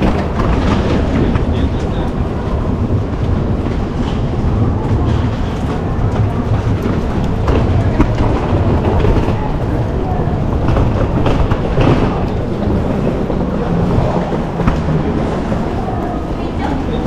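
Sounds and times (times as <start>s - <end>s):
faint crowd voices: 0.0s - 17.0s
footsteps: 0.0s - 17.0s
low rumble: 0.0s - 17.0s.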